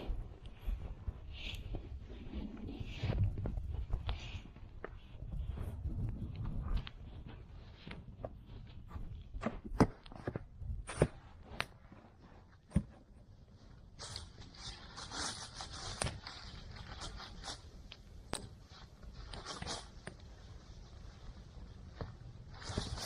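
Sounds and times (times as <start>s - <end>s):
rustling scraping strokes: 0.0s - 9.3s, 13.5s - 23.0s.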